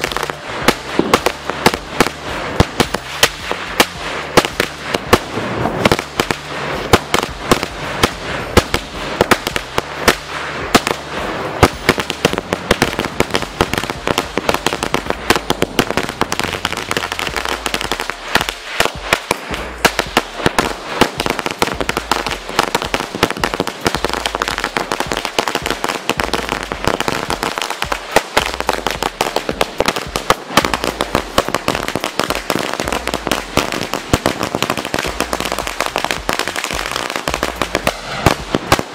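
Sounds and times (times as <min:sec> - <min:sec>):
string of firecrackers cracking: 0:00.0 - 0:38.9.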